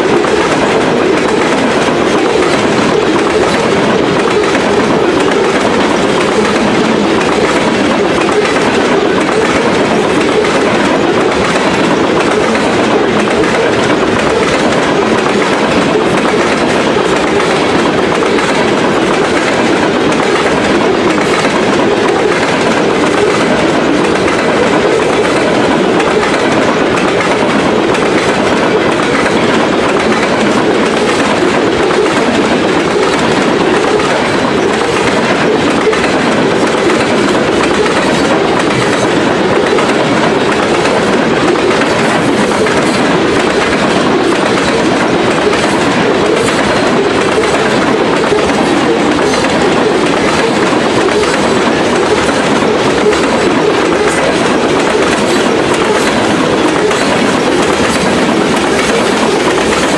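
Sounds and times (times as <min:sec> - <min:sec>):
train wheels rolling: 0:00.0 - 0:59.9
wheels clacking on rail joints: 0:00.0 - 0:59.9.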